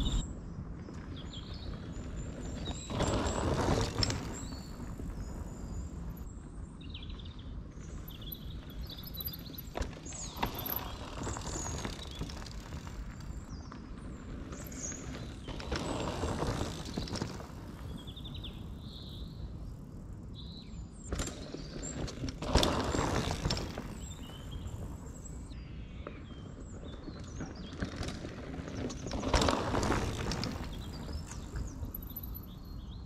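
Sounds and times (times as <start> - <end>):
small birds chirping: 0.0 - 22.0, 23.7 - 27.9, 30.5 - 33.0
bike tyres rolling on dirt: 0.0 - 33.0.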